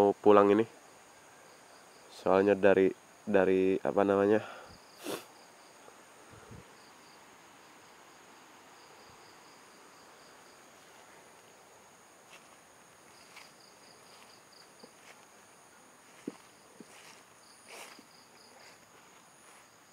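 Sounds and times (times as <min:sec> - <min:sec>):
crickets trilling: 0:00.0 - 0:19.9.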